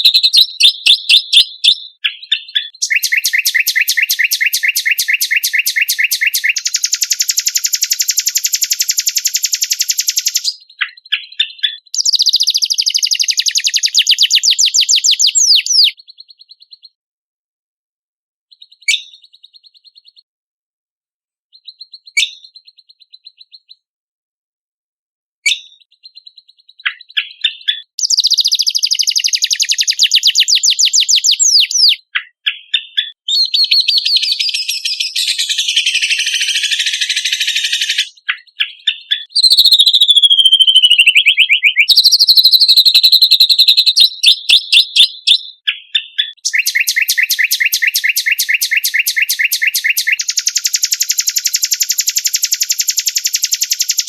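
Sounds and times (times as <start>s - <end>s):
songbird singing trills: 0.0s - 17.0s, 18.5s - 20.3s, 21.5s - 23.9s, 25.5s - 54.0s.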